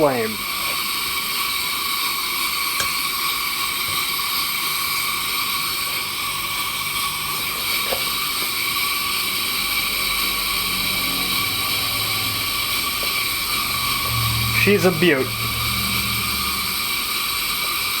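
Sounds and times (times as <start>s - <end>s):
camping stove burner hissing: 0.0s - 18.0s.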